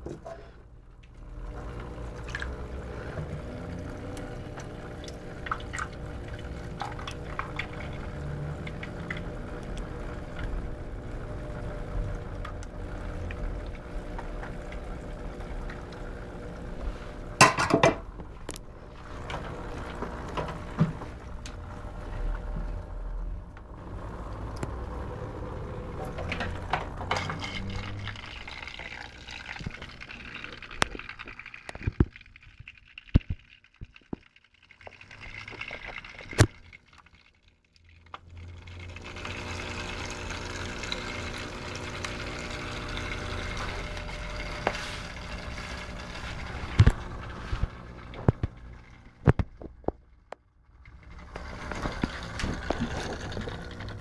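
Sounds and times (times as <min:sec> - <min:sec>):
water spilling into aquarium: 0:01.2 - 0:23.1, 0:23.7 - 0:54.0.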